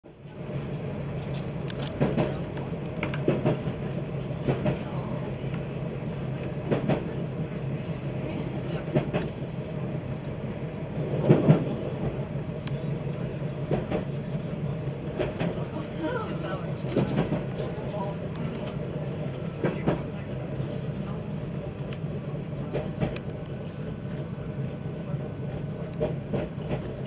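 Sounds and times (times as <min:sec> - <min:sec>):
train rolling rumble: 0:00.0 - 0:27.0.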